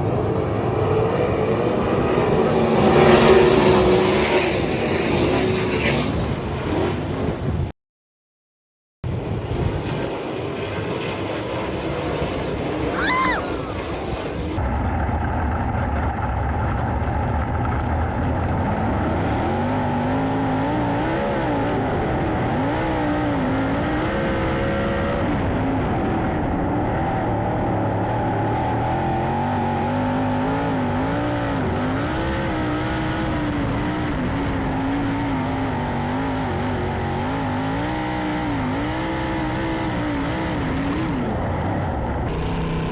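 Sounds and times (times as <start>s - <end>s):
race car engines revving: 0.0s - 7.7s, 9.2s - 42.9s.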